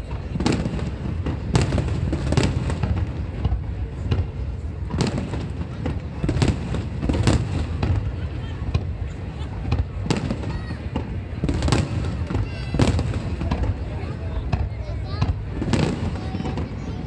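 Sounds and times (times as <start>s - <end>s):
fireworks bangs: 0.0s - 17.0s
low rumble of fireworks bursts: 0.0s - 17.0s.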